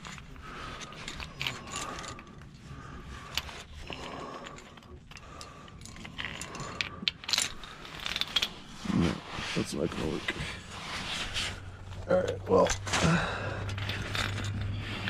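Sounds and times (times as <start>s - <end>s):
metal climbing gear clinking: 0.0s - 9.2s, 11.4s - 15.0s.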